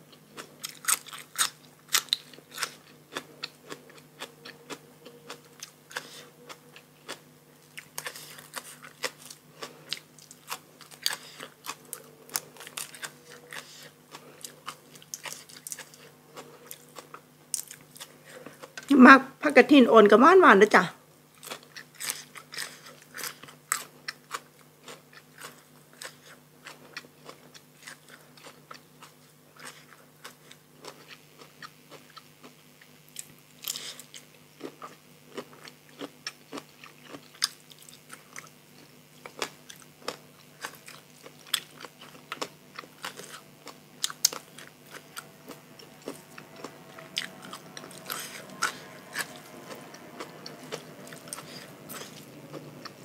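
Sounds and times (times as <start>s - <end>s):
person crunching raw vegetables: 0.0s - 18.9s, 21.3s - 53.0s.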